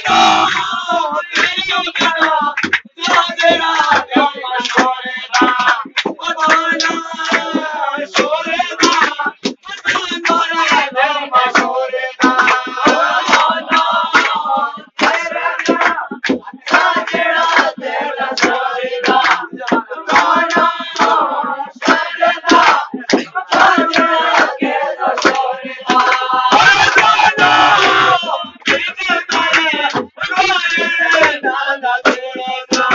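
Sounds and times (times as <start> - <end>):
hand clapping beat: 0.0 - 32.9
people singing folk song: 0.0 - 32.9.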